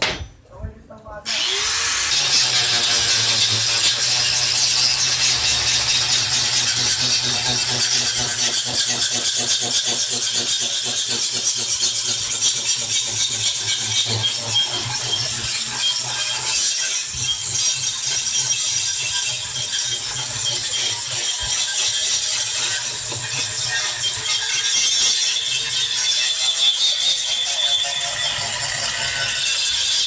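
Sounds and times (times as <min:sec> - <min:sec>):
angle grinder grinding steel: 0:01.3 - 0:30.0.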